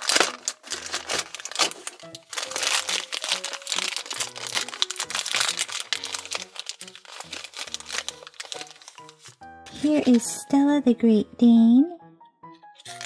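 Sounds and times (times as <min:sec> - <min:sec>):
plastic bag crinkling: 0:00.0 - 0:10.4, 0:12.8 - 0:13.0
background music: 0:00.0 - 0:13.0.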